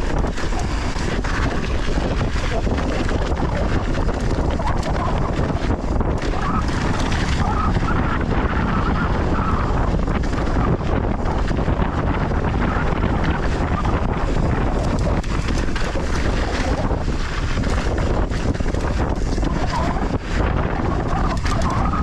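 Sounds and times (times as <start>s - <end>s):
bike knocks and rattles: 0.0s - 22.0s
tyres on loose soil: 0.0s - 22.0s
wind buffeting microphone: 0.0s - 22.0s.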